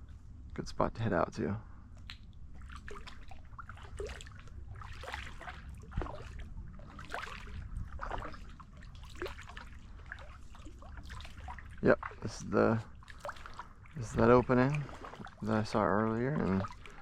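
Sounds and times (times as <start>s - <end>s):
water dripping from paddle: 1.9s - 17.0s
paddle splashing in water: 2.6s - 17.0s.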